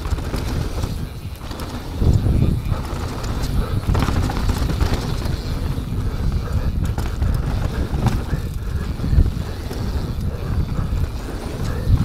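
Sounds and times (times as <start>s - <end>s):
bike rattling and knocking: 0.0s - 12.0s
bike tyre noise: 0.0s - 12.0s
wind rumble on microphone: 0.0s - 12.0s.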